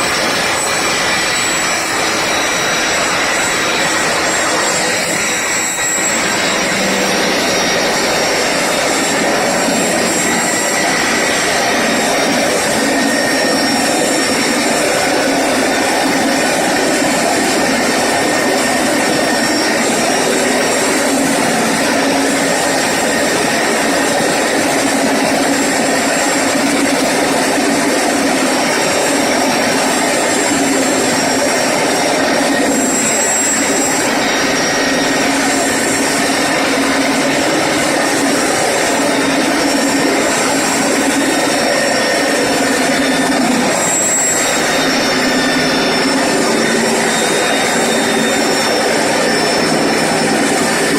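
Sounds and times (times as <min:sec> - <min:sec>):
core cutting machine whine and grind: 0:00.0 - 0:50.9.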